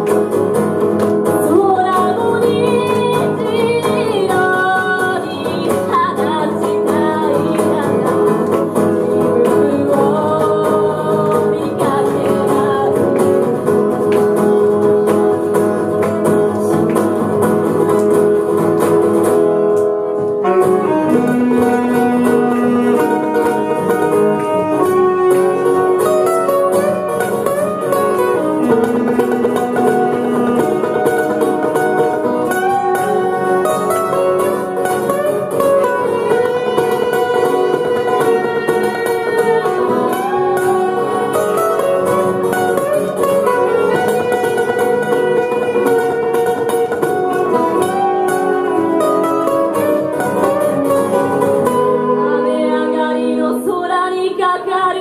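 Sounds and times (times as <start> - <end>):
live band playing: 0.0 - 53.5
saxophone: 0.0 - 53.6
electric guitars: 0.0 - 55.0.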